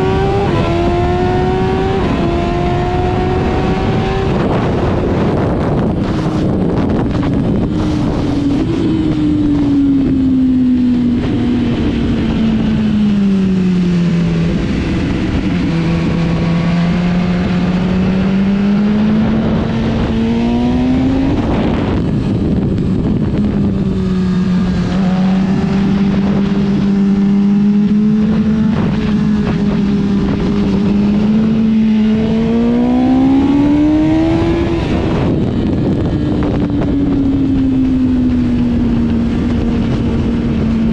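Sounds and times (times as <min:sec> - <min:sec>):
motorcycle engine revving: 0:00.0 - 0:40.9
wind rushing over microphone: 0:00.0 - 0:40.9.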